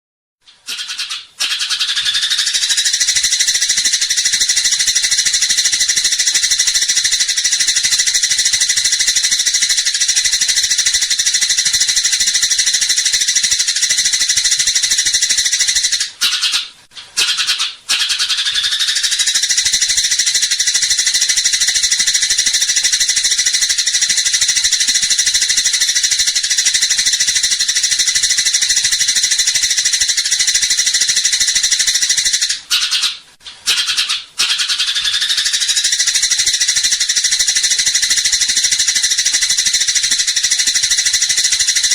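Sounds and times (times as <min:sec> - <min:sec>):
sparrows chattering: 0:00.6 - 0:41.9.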